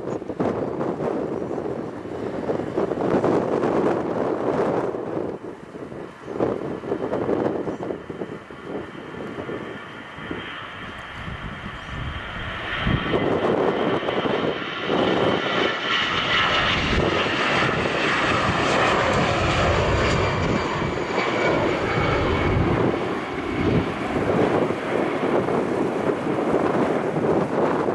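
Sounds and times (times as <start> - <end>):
high jet engine whine: 0.0 - 27.9
jet engines roaring: 0.0 - 27.9.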